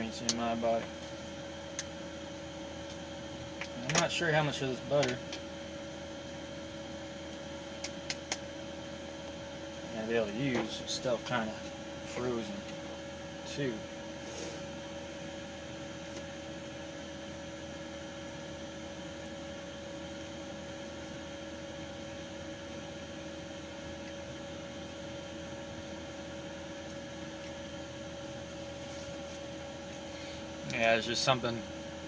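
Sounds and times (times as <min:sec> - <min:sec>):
room hum and hiss: 0:00.0 - 0:32.0.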